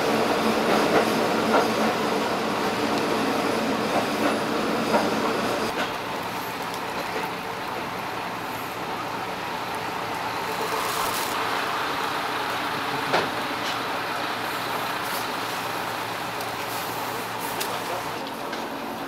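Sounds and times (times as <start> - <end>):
diesel railcar rumbling on rails: 0.0 - 19.0.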